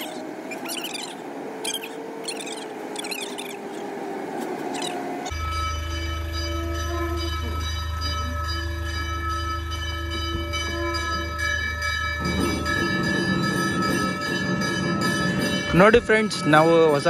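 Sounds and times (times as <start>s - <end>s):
temple bells ringing: 0.0s - 2.6s, 4.8s - 17.0s.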